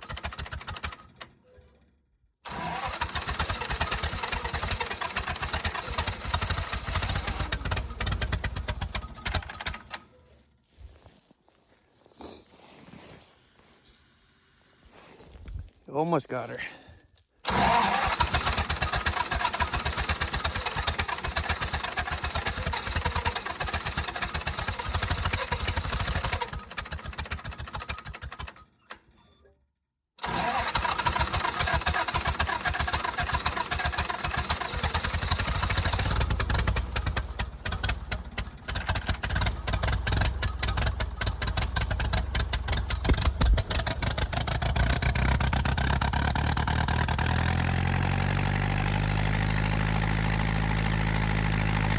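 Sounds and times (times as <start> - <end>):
engine cranking and sputtering: 0.0 - 10.6, 17.1 - 29.4, 30.2 - 51.9.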